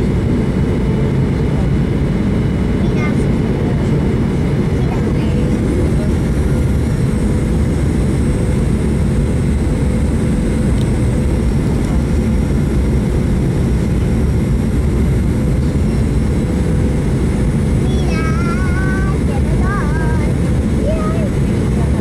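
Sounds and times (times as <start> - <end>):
airflow and jet engine rumble: 0.0 - 22.0
faint high engine whine: 0.0 - 22.0.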